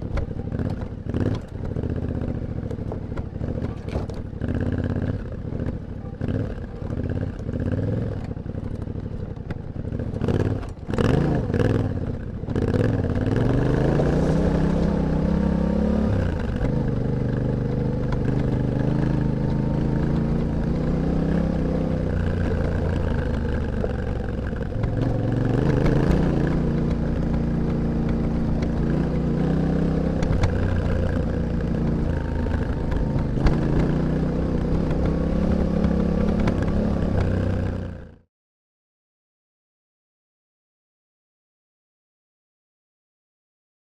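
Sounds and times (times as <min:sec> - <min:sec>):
motorcycle engine and exhaust: 0:00.0 - 0:38.3.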